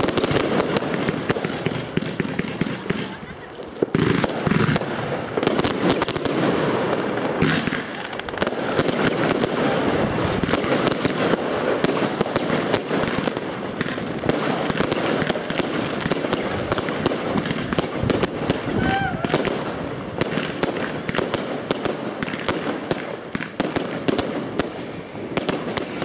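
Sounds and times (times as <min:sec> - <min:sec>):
fireworks crackling and banging: 0:00.0 - 0:26.0.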